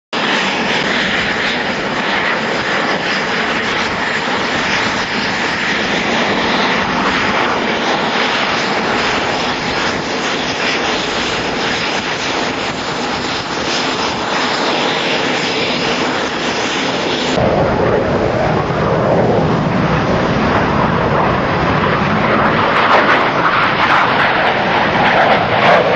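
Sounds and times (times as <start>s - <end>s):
jet engines running: 0.1s - 25.9s.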